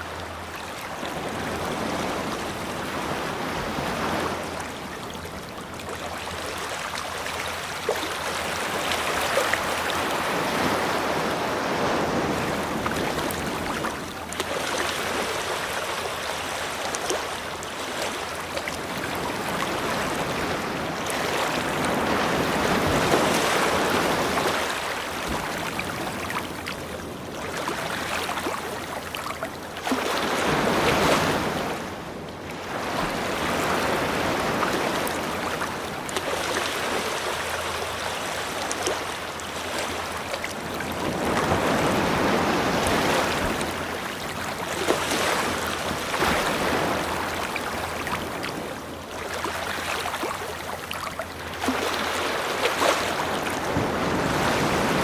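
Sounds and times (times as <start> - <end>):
ocean waves washing on beach: 0.0 - 55.0.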